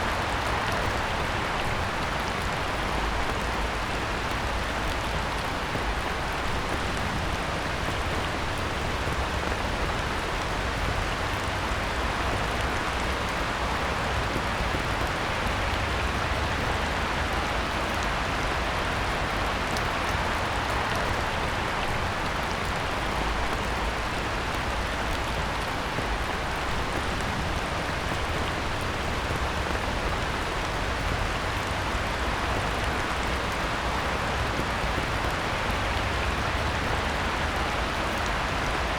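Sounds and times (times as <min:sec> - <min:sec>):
heavy rain on a pond: 0:00.0 - 0:38.9.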